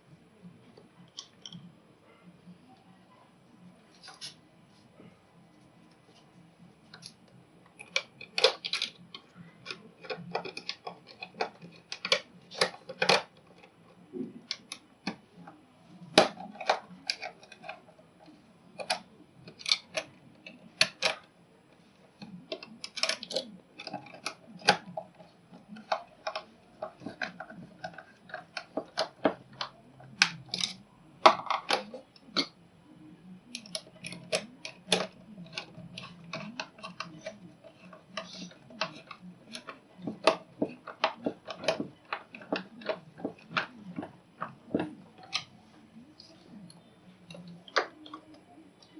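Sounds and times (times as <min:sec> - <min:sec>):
small tools clicking and knocking: 0:06.9 - 0:32.6, 0:33.5 - 0:48.9.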